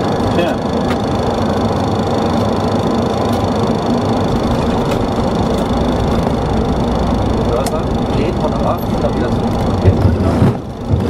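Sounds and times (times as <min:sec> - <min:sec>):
aircraft cabin rumble: 0:00.0 - 0:11.0
engine whine: 0:00.0 - 0:11.0.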